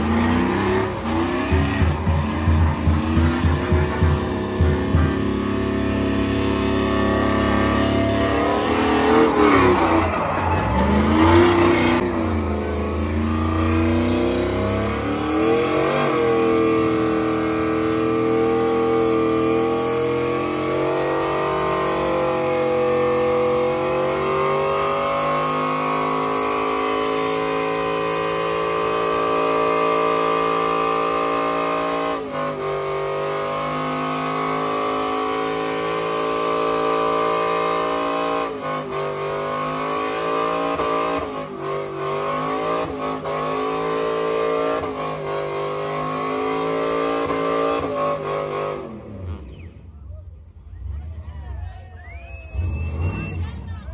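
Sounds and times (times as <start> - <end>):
vehicle engine revving: 0.0 - 49.8.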